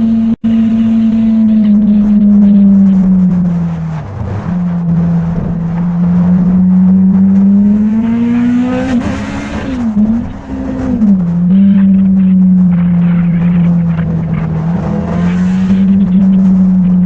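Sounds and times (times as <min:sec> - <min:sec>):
motorcycle engine running: 0:00.0 - 0:07.9, 0:09.9 - 0:17.0.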